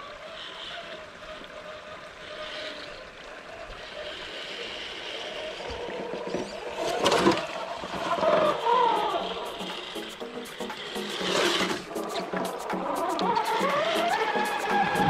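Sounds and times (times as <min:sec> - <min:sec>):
electric motors and gears whining: 0:00.0 - 0:15.0.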